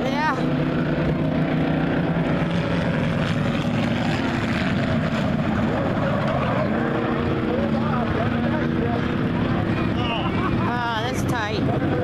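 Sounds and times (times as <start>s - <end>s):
race car engines roaring: 0.0s - 12.0s.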